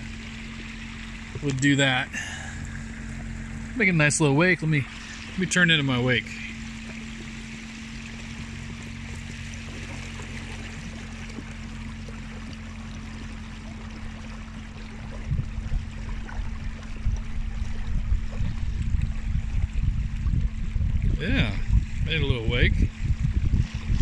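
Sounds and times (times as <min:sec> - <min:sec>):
water rushing along hull: 0:00.0 - 0:24.0
water slapping against hull: 0:00.0 - 0:24.0.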